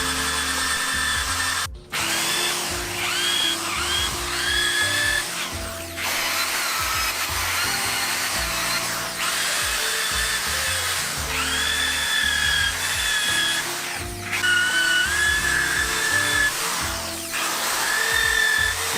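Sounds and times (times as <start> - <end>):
background music: 0.0 - 18.9
electric drill with wire brush: 0.0 - 18.9.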